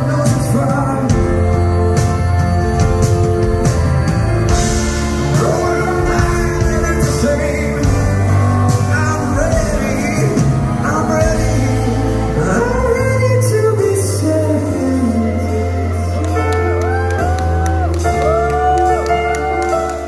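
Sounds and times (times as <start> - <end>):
drums: 0.0 - 20.0
grand piano: 0.0 - 20.0
man singing: 0.0 - 20.0
sustained bass line: 0.0 - 20.0.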